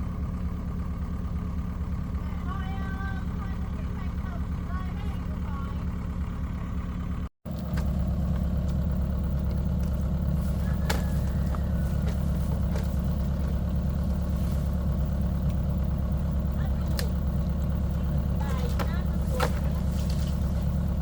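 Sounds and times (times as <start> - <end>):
engine deep constant hum: 0.0 - 21.0.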